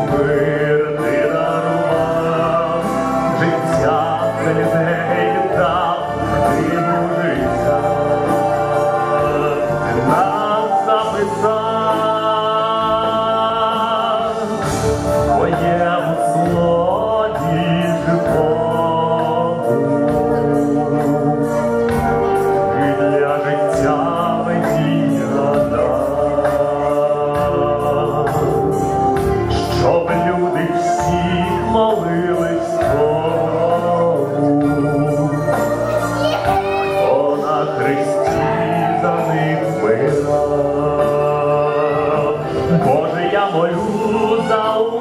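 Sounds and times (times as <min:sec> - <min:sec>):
instrumental accompaniment: 0:00.0 - 0:45.0
man singing into microphone: 0:00.0 - 0:45.0.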